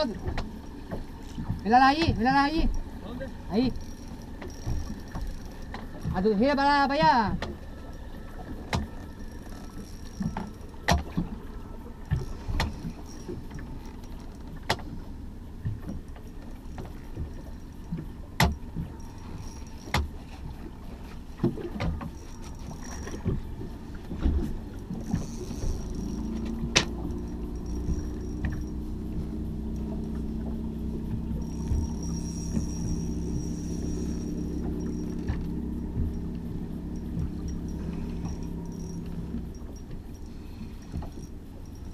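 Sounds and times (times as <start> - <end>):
boat engine hum: 0.0 - 41.9
low rumble of water: 0.0 - 41.9
sharp knocks from boat: 0.0 - 41.9.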